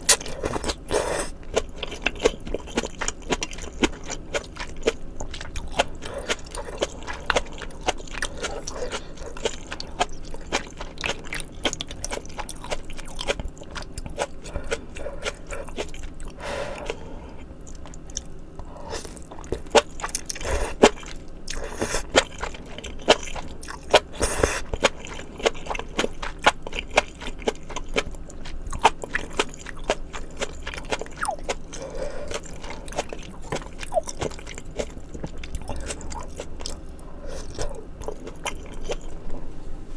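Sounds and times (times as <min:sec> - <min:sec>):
chewing and biting food: 0:00.0 - 0:39.4.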